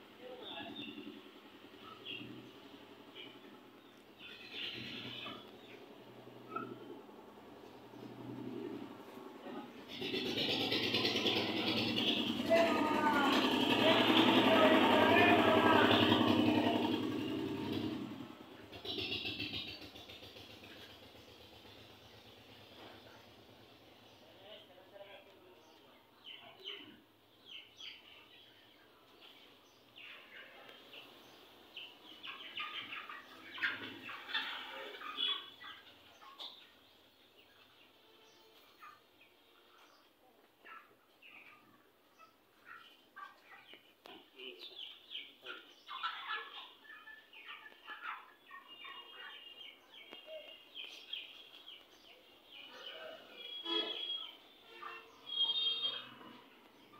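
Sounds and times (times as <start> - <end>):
chickens calling: 0.3 - 56.9.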